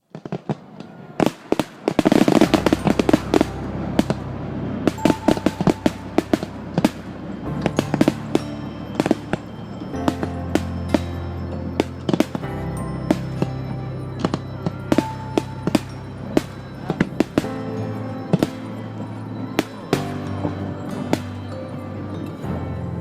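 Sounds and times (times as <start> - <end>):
fireworks exploding: 0.0 - 22.6
music: 2.0 - 23.0.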